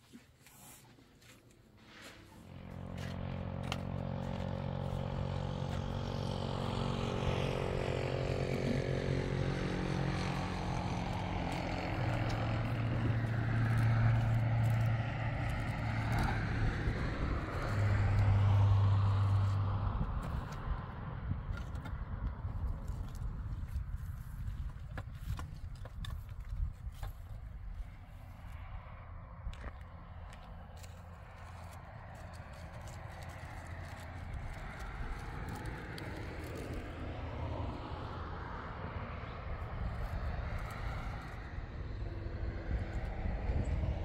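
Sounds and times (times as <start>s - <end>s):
vehicle engine running: 2.2s - 28.6s, 29.2s - 38.6s.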